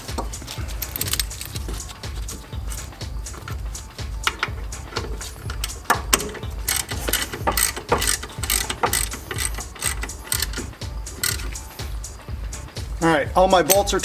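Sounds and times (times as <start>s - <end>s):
ratchet wrench clicking: 0.0s - 11.8s.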